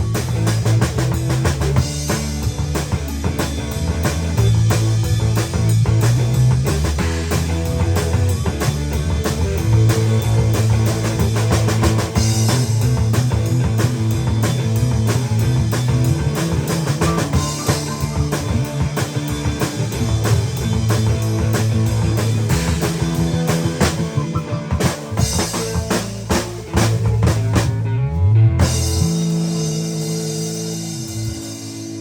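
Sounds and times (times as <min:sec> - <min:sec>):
drum kit steady beat: 0:00.0 - 0:28.0, 0:28.6 - 0:32.0
guitar: 0:00.0 - 0:32.0
low bass line: 0:00.0 - 0:32.0.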